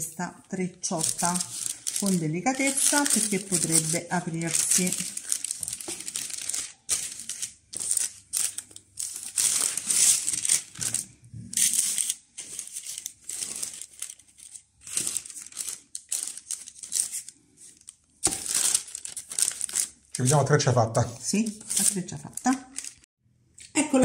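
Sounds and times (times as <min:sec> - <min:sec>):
parchment paper crinkling: 0:00.4 - 0:23.1.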